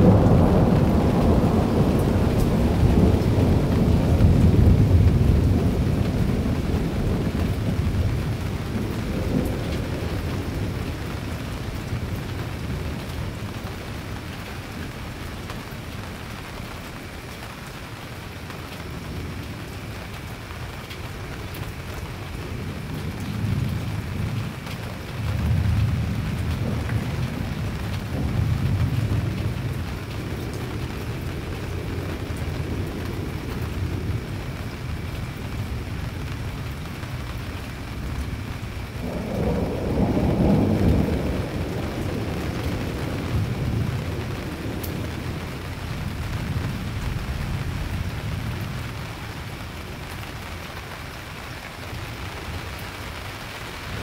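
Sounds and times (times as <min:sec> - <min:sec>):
steady rain: 0:00.0 - 0:54.0
thunder rumbling: 0:00.0 - 0:54.0.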